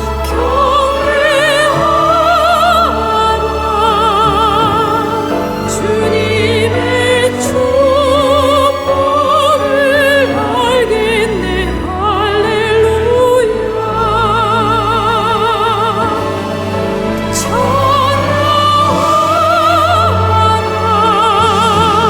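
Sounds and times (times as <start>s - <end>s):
soprano singing operatically: 0.0s - 22.0s.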